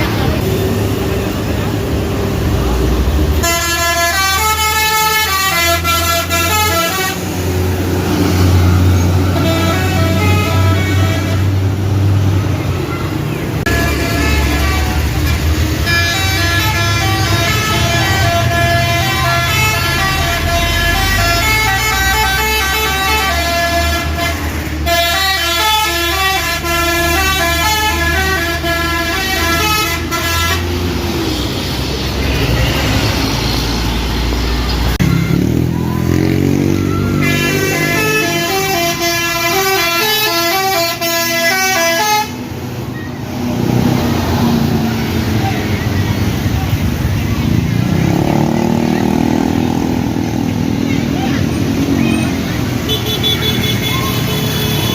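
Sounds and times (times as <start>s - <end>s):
bus engines rumbling: 0.0s - 54.9s
bus horns playing melodies: 3.1s - 33.1s, 34.9s - 45.7s, 47.5s - 54.9s.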